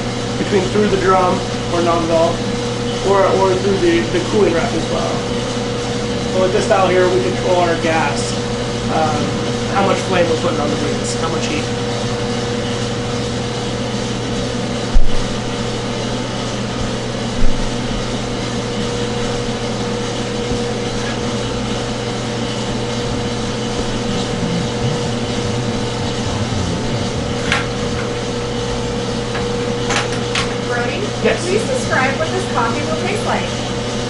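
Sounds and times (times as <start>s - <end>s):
coffee roaster humming: 0.0s - 34.0s.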